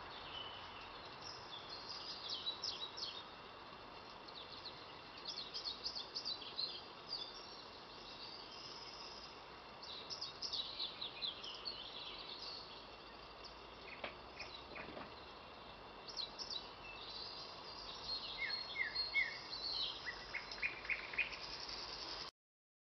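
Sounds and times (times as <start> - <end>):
bird singing: 0.0 - 22.3
faint steady hiss: 0.0 - 22.3.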